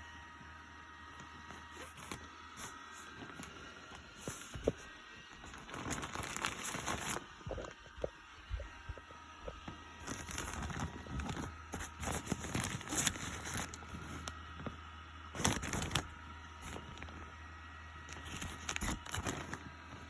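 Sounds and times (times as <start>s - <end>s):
packaging rustling and crinkling: 1.3s - 8.2s, 9.5s - 14.8s, 15.4s - 17.3s, 18.0s - 20.0s.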